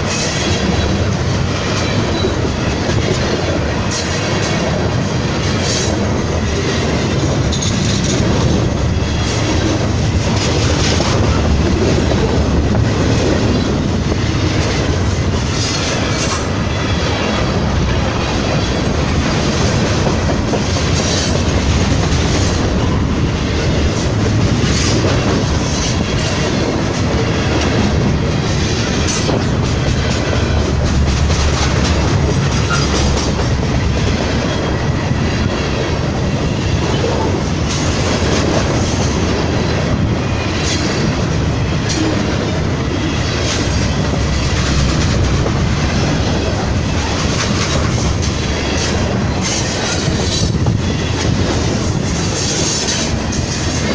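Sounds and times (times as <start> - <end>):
train wheels clacking over rails: 0.0 - 53.9.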